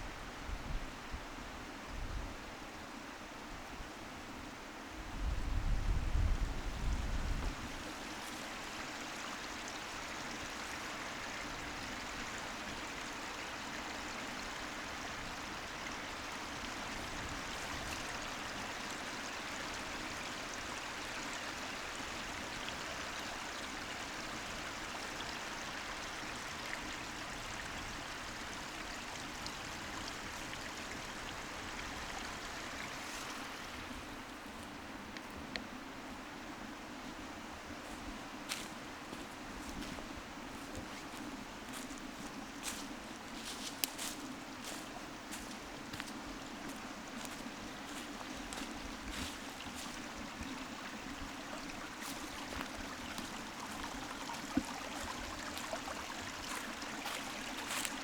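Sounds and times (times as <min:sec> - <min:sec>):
stream flowing water: 0:06.5 - 0:58.0.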